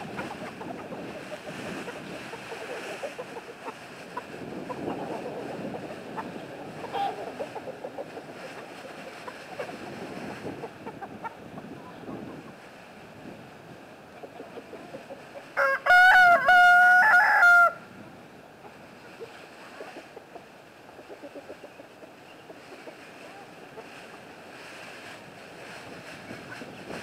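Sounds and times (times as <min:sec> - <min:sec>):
hens clucking: 0:00.0 - 0:12.7, 0:14.1 - 0:17.8, 0:18.6 - 0:27.0.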